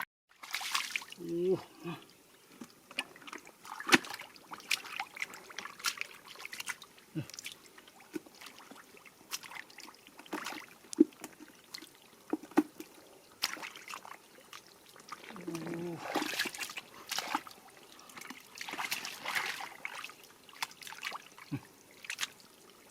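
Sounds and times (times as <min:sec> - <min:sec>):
water splashing and dripping: 0:00.3 - 0:22.9.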